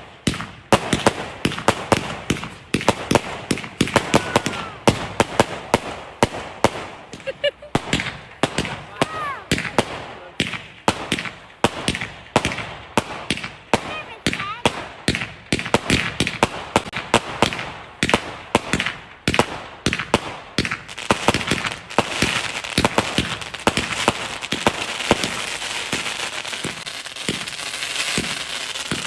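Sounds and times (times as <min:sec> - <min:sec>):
fireworks bangs and crackle: 0:00.0 - 0:29.0.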